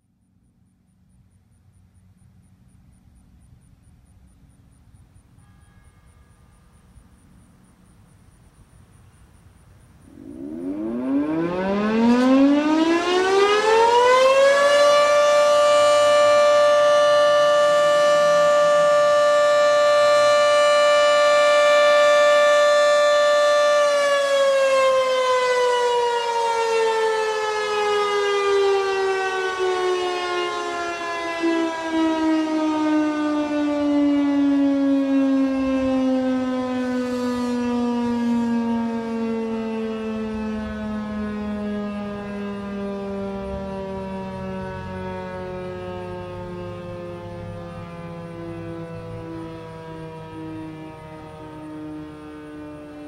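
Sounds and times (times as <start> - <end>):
dual-tone warning siren: 4.2 - 53.0.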